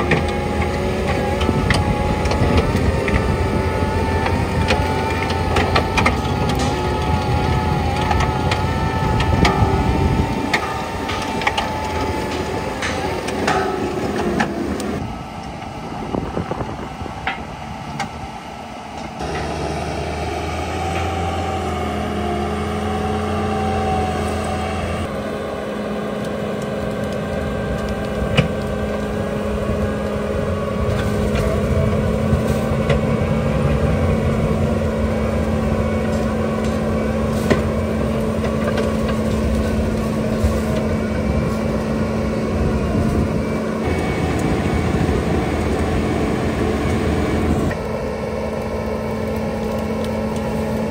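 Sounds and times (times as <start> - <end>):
mulcher rotor grinding stumps: 0.0 - 15.7, 19.0 - 50.9
track loader engine under load: 0.0 - 50.9.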